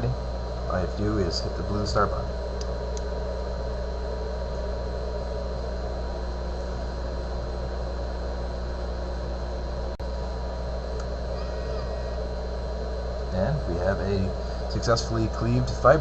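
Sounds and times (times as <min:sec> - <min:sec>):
electrical hum: 0:00.0 - 0:16.0
faint high whine and hiss: 0:00.0 - 0:16.0.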